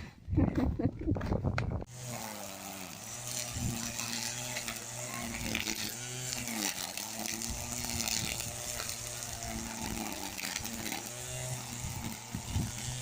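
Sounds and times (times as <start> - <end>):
small electric motor humming: 1.8 - 13.0.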